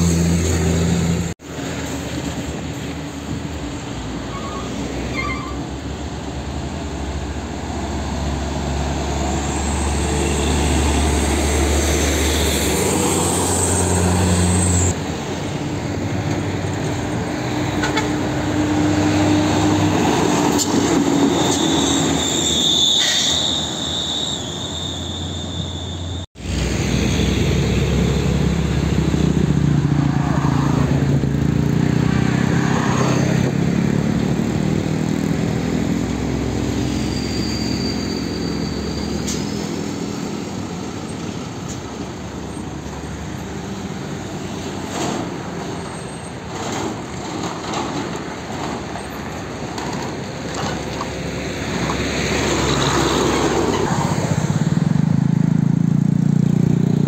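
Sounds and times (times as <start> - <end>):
diesel trucks driving past: 0.0 - 57.0.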